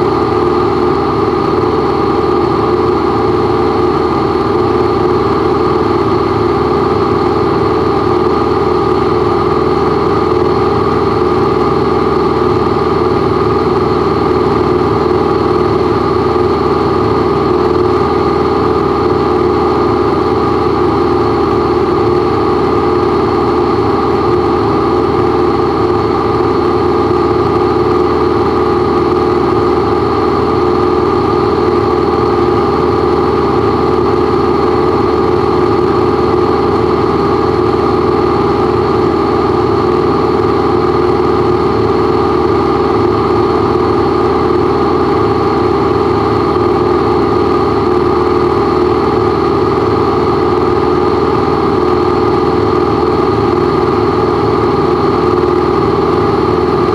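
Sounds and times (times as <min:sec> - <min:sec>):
aircraft engine drone: 0:00.0 - 0:56.9.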